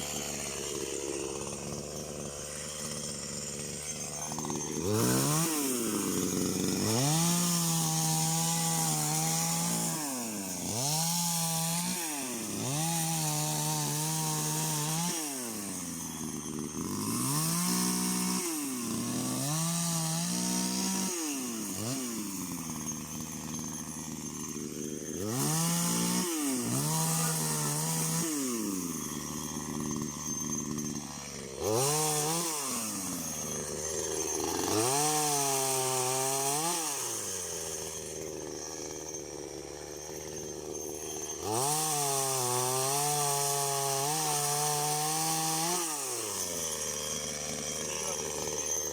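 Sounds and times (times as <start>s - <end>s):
chainsaw revving: 0.0s - 48.9s.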